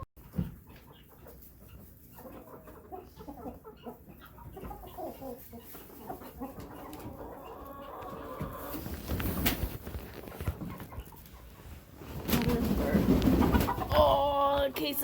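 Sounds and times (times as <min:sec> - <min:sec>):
chickens clucking: 0:00.2 - 0:15.0.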